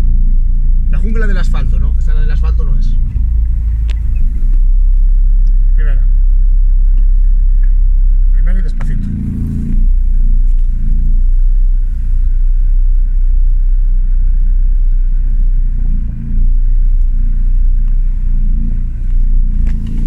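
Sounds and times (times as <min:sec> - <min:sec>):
engine low rumble: 0:00.0 - 0:20.0.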